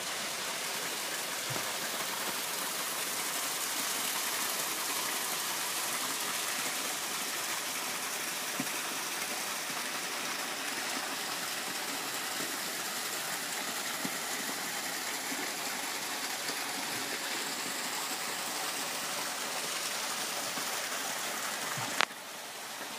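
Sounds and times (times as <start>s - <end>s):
waterfall splashing onto rocks: 0.0s - 22.9s.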